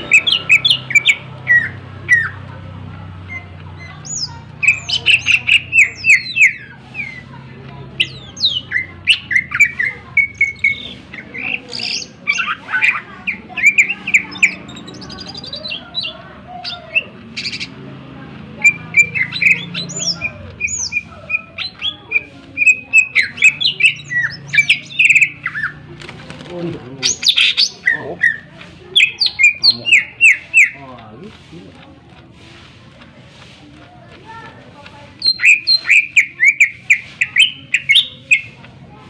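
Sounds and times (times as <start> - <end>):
bird singing chirps and trills: 0.0 - 2.5, 3.2 - 31.5, 34.2 - 39.0.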